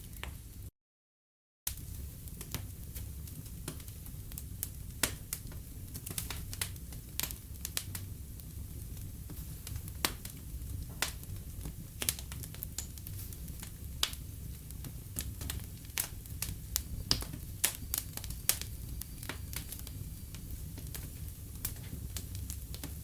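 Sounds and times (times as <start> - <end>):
fire crackling and popping: 1.7 - 23.0
low rumble of flames: 1.7 - 23.0.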